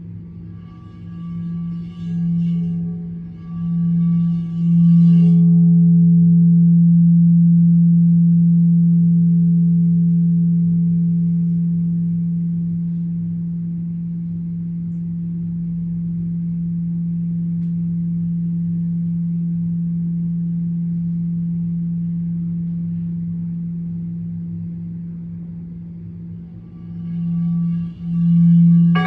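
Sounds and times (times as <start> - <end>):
deep sustained ringing tone: 0.0 - 29.0.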